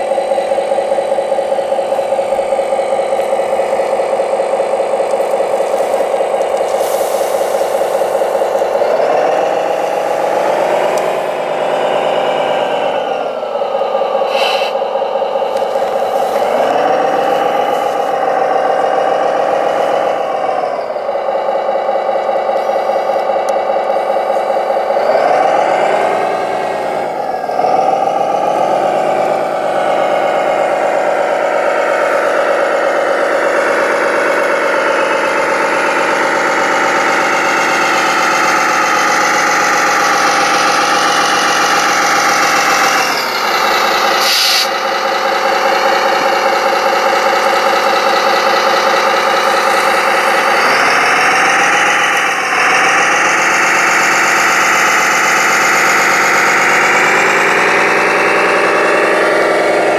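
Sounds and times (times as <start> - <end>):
model tractor engine running: 0.0 - 59.9.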